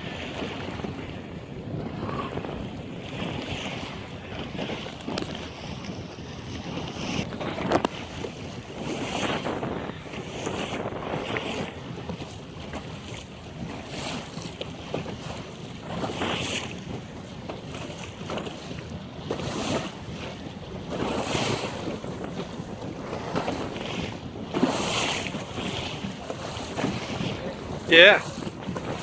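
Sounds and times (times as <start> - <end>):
waves washing against boat: 0.0 - 29.0
wind buffeting microphone: 0.0 - 29.0.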